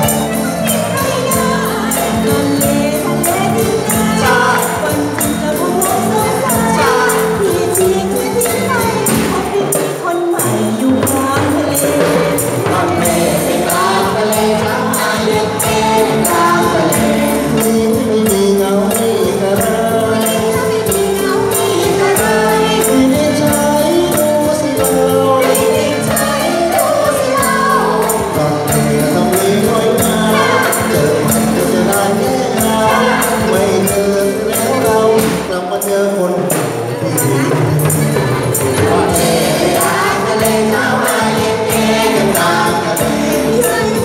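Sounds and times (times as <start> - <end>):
band playing: 0.0 - 44.0
chorus singing folk song: 0.0 - 44.0
steady percussion beat: 0.0 - 44.0.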